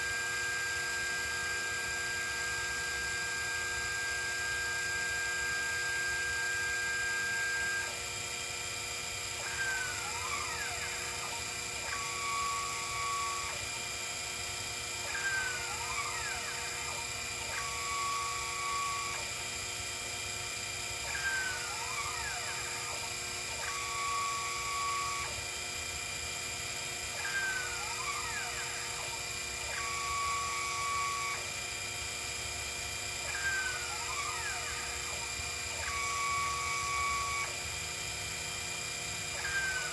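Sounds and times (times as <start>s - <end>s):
stepper motors whining: 0.0s - 19.6s, 20.6s - 26.1s, 27.0s - 39.9s.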